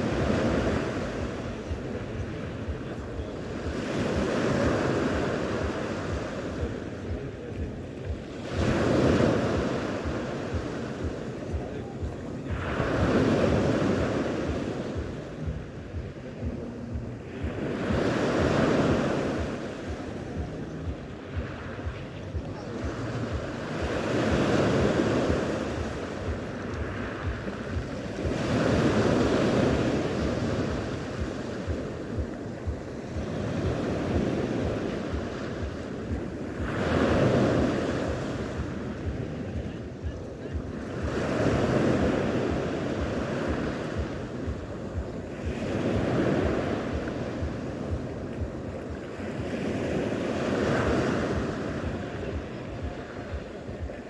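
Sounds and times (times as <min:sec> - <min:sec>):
sea waves washing ashore: 0:00.0 - 0:54.0
wind buffeting microphone: 0:00.0 - 0:54.0.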